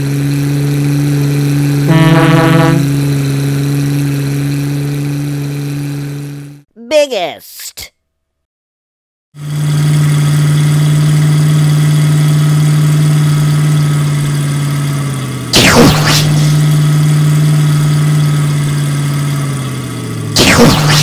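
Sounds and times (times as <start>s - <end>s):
truck engine humming: 0.0s - 6.6s, 9.4s - 20.4s.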